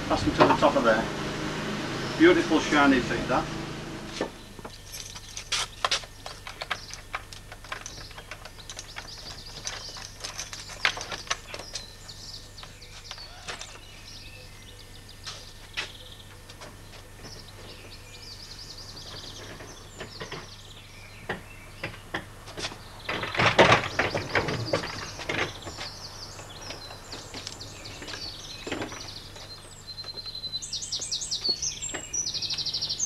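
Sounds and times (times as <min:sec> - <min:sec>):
small birds chirping: 0:00.0 - 0:03.6, 0:04.2 - 0:33.0.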